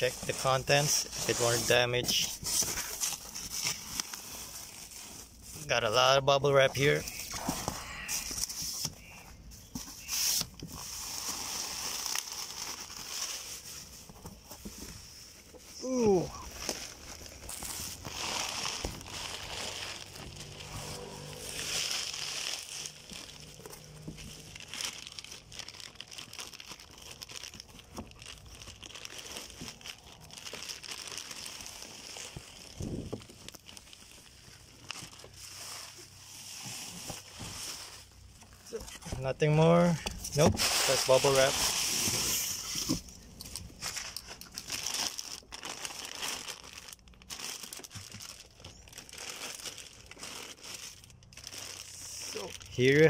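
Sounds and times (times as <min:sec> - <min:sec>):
bubble wrap and plastic bag crinkling: 0:00.0 - 0:53.0.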